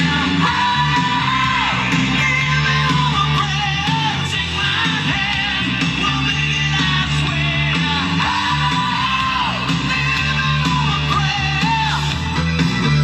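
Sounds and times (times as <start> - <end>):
rock guitar: 0.0 - 13.0
steady bass line: 0.0 - 13.0.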